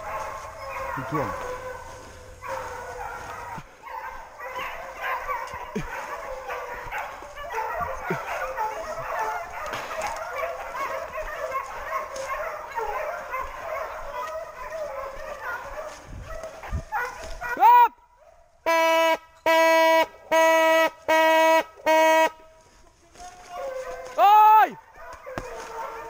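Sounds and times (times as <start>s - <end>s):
hounds barking and baying: 0.0s - 18.6s, 20.0s - 26.0s.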